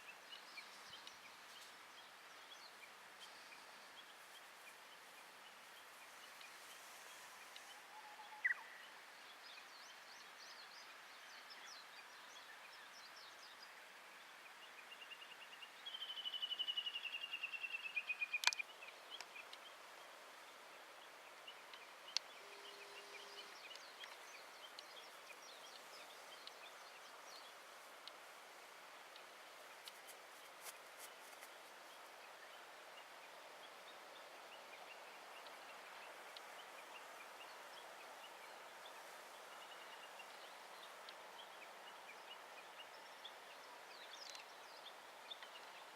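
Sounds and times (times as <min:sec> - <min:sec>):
quiet outdoor background noise: 0:00.0 - 0:45.9.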